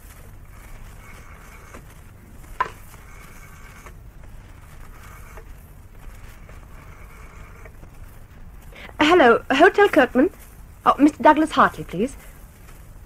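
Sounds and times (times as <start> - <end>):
low recording hum: 0.0 - 13.0.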